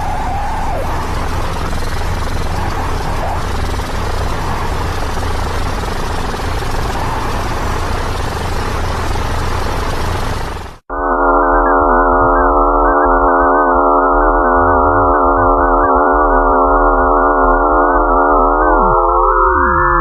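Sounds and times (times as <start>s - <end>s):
synthesized drone chord: 0.0s - 19.7s
low hum: 0.0s - 20.0s.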